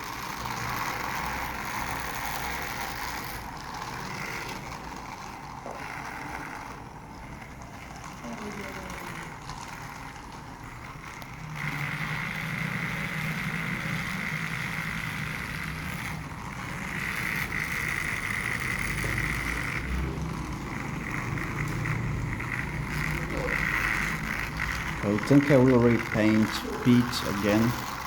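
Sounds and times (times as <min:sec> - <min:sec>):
small electric motor whine: 0:00.0 - 0:28.0
toy train wheels rolling on rails: 0:00.0 - 0:28.0.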